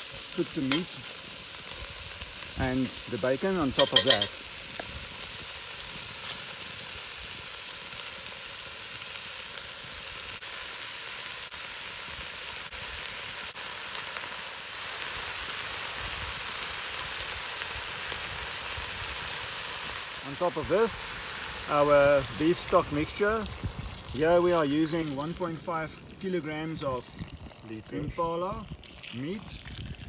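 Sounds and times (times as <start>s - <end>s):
meat sizzling in a pot: 0.0s - 30.0s.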